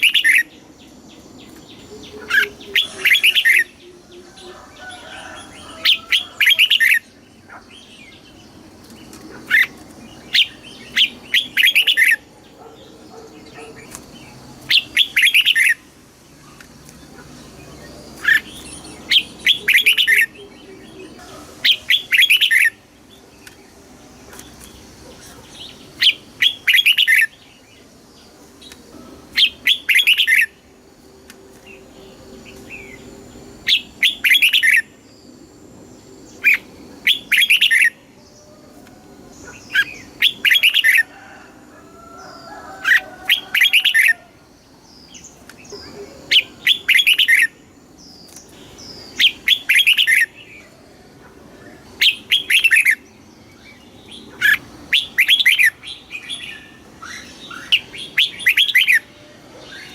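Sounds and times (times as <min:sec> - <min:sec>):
bulbul singing: 0:00.0 - 0:41.1, 0:42.2 - 0:59.9.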